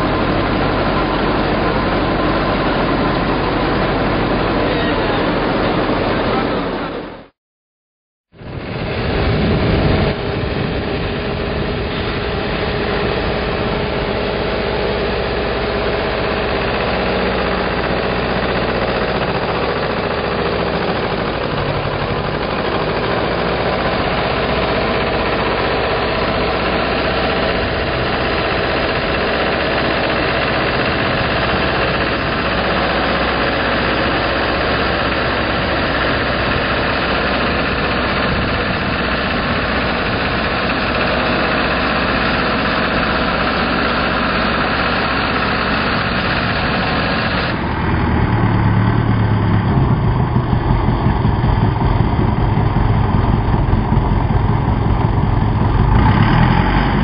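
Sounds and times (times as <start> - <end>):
tractor diesel engine running: 0.0 - 7.3, 8.3 - 57.0.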